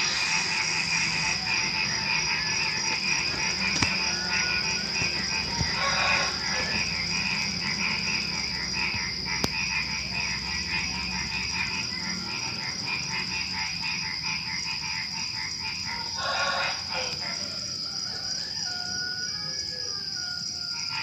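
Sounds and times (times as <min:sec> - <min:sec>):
crickets trilling: 0:00.0 - 0:21.0
frogs croaking: 0:00.0 - 0:21.0.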